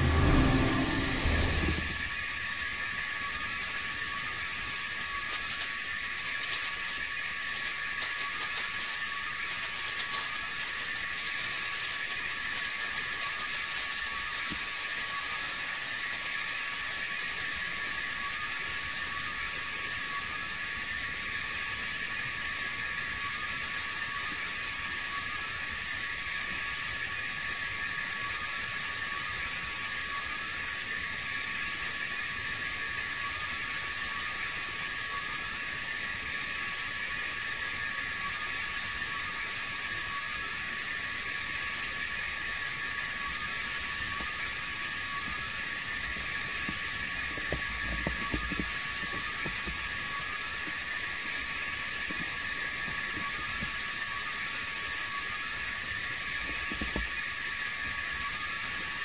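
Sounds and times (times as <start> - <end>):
sparkler fizzing and crackling: 0.1 - 25.2, 26.1 - 59.0.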